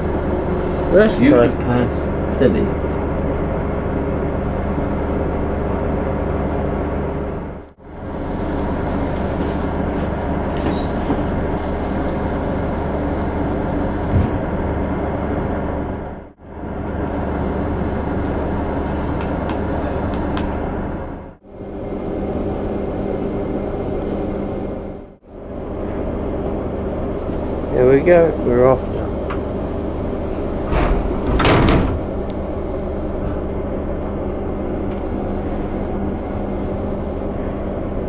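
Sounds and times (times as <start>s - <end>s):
train carriage hum: 0.0s - 38.0s.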